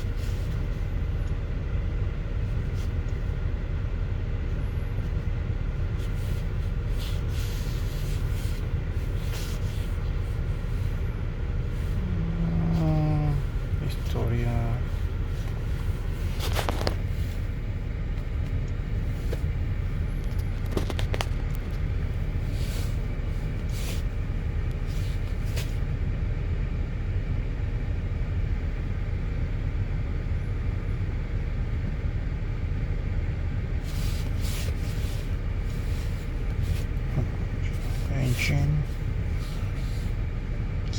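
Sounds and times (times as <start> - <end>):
engine idling with misfire: 0.0 - 40.9.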